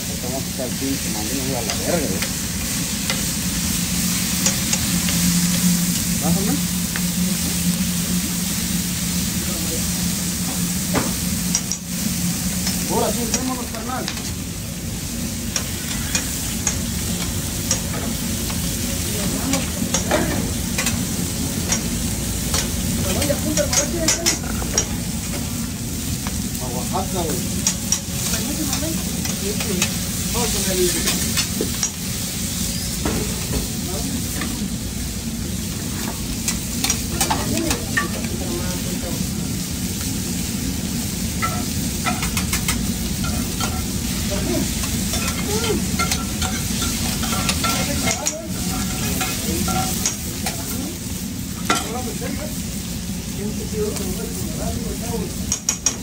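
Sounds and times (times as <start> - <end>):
food sizzling on a griddle: 0.0 - 56.0.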